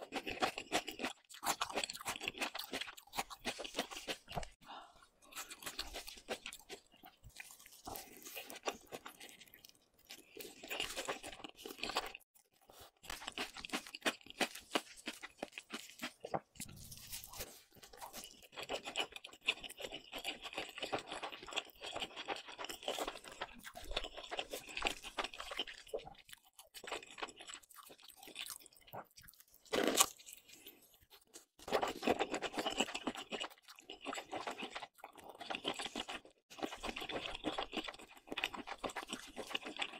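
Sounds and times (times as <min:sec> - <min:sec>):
crunchy chewing: 0:00.0 - 0:04.6, 0:05.2 - 0:39.9.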